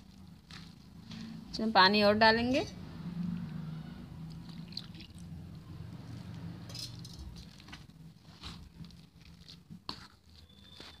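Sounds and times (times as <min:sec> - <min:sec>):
spoon stirring wet batter: 0:00.0 - 0:01.6, 0:02.4 - 0:11.0.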